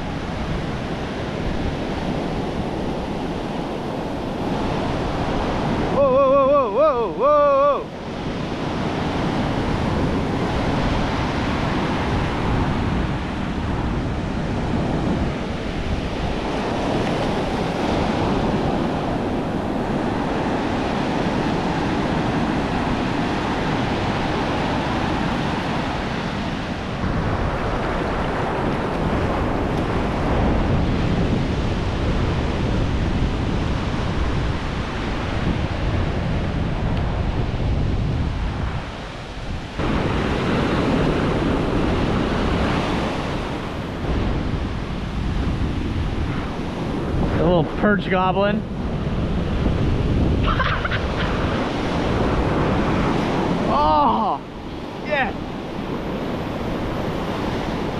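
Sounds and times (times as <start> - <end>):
ocean surf breaking: 0.0 - 57.9
wind buffeting microphone: 0.0 - 57.9.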